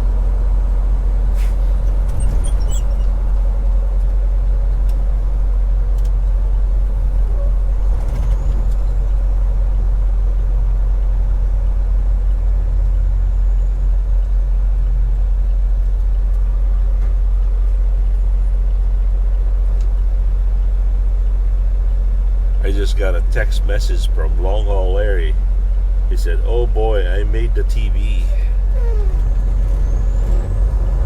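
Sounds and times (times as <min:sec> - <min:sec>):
truck engine drone and road noise: 0:00.0 - 0:31.0.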